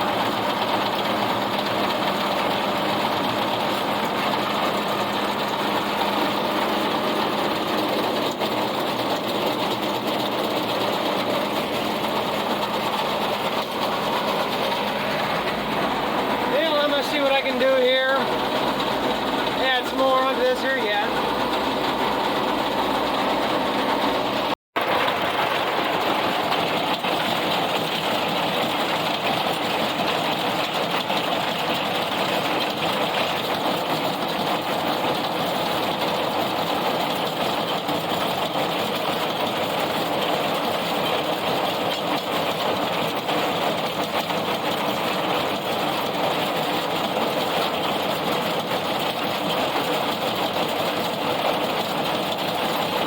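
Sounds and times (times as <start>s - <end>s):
tractor and baler droning: 0.0s - 53.0s.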